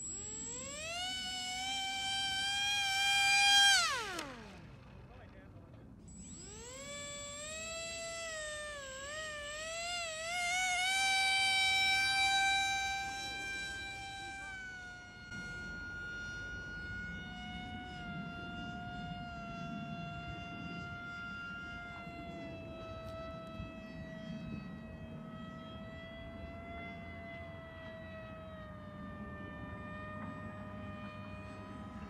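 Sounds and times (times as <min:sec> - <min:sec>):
model plane electric motor whine: 0:00.0 - 0:32.0.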